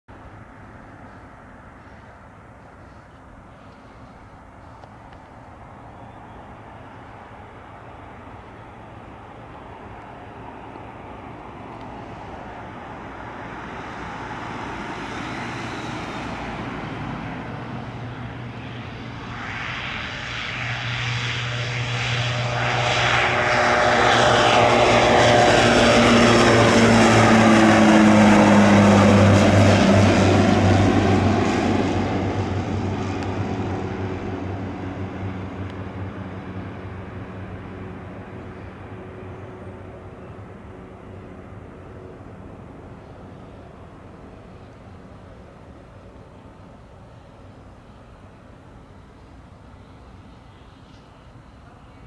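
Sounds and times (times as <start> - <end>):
turboprop plane taking off: 0.1 - 52.0.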